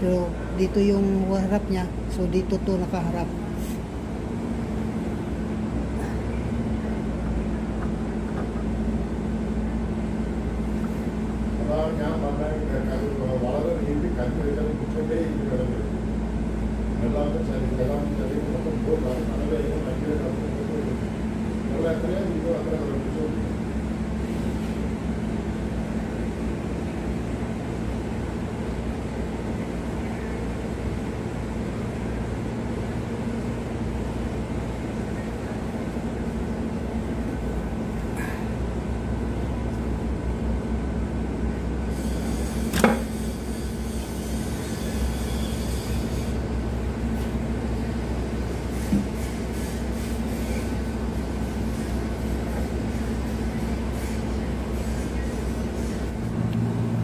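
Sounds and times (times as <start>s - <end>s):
workshop machine hum: 0.0s - 57.0s.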